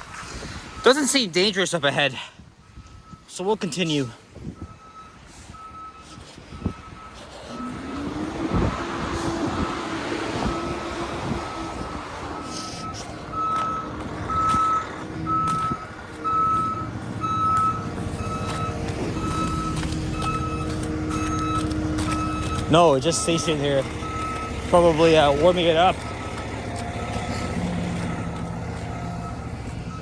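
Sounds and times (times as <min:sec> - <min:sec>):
truck reversing alarm beeping: 0:00.0 - 0:30.0
truck engine droning: 0:02.8 - 0:30.0.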